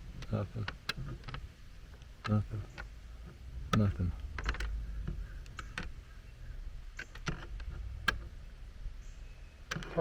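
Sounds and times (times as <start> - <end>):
steady low rumble: 0.0 - 9.8.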